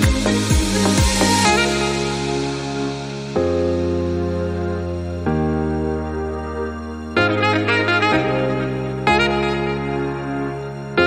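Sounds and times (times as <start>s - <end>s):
instrumental music slow held notes: 0.0s - 11.0s.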